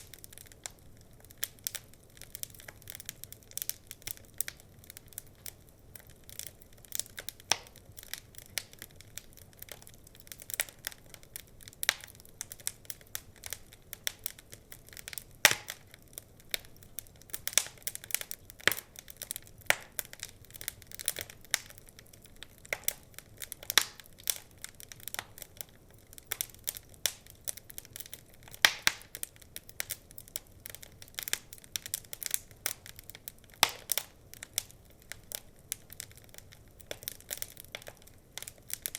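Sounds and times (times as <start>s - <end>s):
faint fire hiss: 0.0s - 38.9s
wood fire crackling: 0.0s - 38.9s.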